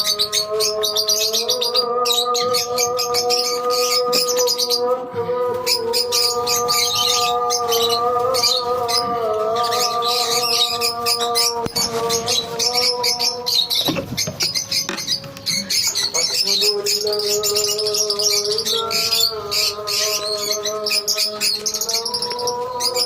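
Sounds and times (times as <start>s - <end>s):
lovebirds chirping and squawking: 0.0s - 23.0s.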